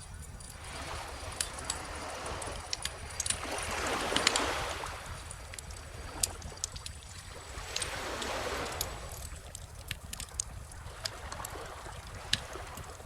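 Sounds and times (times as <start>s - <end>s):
bonfire crackling and popping: 0.0s - 13.0s
low rumble of surf: 0.0s - 13.0s
ocean wave washing: 0.0s - 13.0s.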